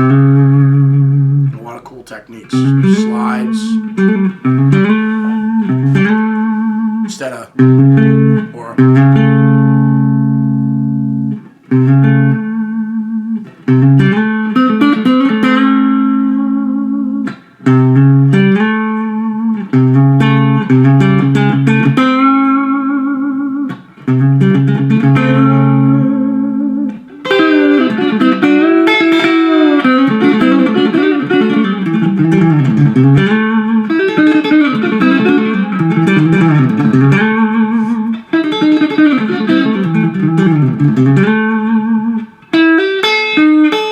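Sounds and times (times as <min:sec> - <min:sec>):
electric guitar country picking: 0:00.0 - 0:43.9.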